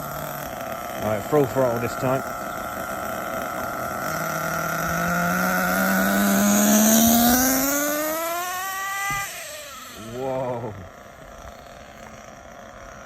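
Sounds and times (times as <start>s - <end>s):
nitro engine at full throttle: 0.0s - 13.0s.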